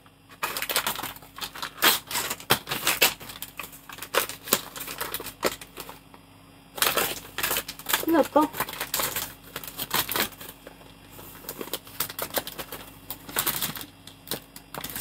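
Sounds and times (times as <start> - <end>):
wrapping crinkling: 0.3 - 6.1, 6.8 - 15.0.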